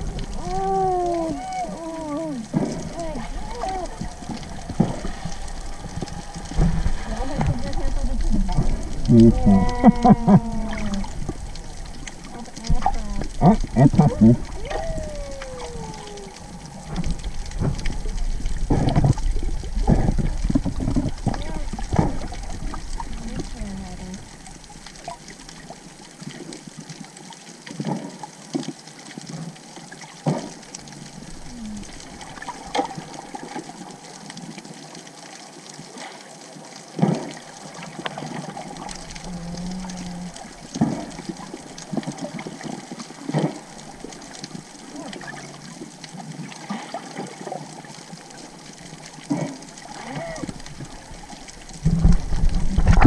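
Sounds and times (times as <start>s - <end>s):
muffled underwater noise: 0.0s - 26.9s, 30.2s - 53.0s
bubbling: 0.0s - 53.0s.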